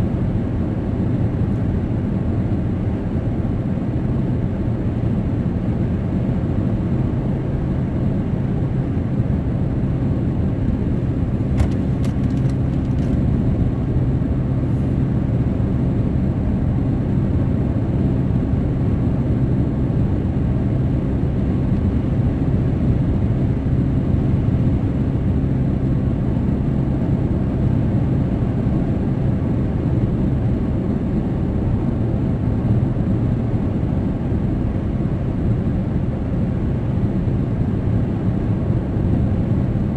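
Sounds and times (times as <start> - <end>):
car cabin road and engine noise: 0.0 - 39.9.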